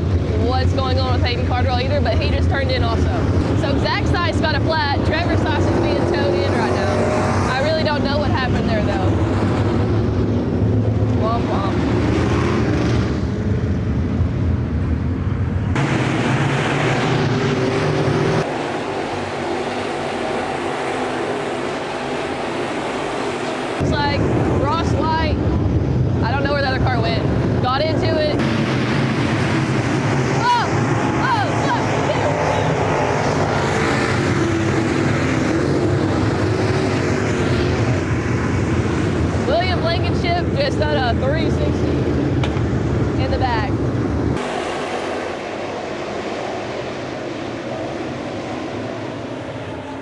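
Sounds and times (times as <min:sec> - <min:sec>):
race car engines droning: 0:00.0 - 0:50.0.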